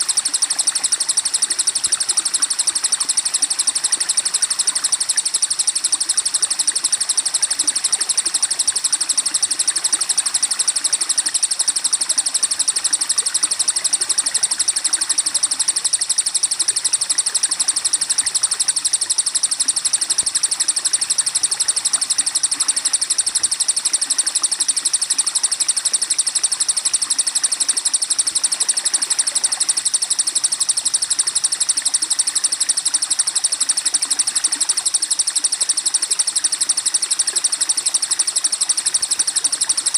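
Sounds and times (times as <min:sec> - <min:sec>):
fast high-pitched bird trill: 0:00.0 - 0:39.9.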